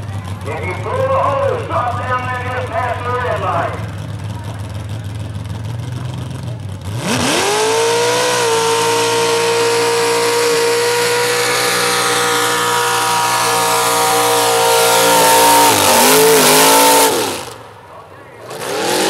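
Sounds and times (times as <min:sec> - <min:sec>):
engine at high revs: 0:01.9 - 0:17.8, 0:18.4 - 0:19.0.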